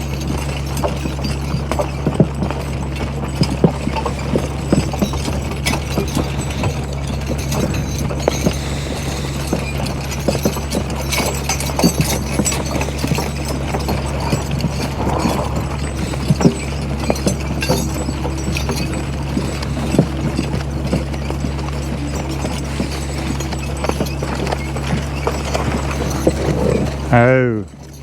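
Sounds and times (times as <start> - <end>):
horse hooves clip-clopping: 0.0 - 28.0
steady low hum: 0.0 - 28.0.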